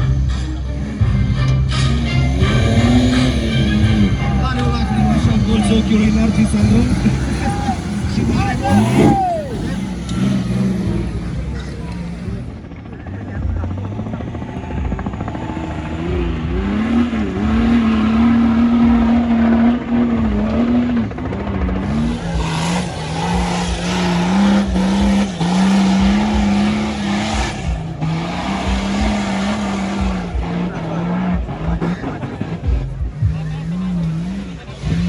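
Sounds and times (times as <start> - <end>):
off-road engine revving: 0.0 - 35.0.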